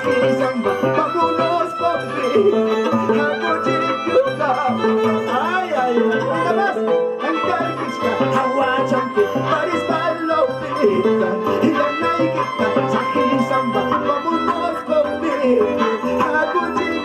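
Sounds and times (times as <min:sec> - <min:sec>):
harp plucked chords: 0:00.0 - 0:17.0
violin melody: 0:00.0 - 0:17.0.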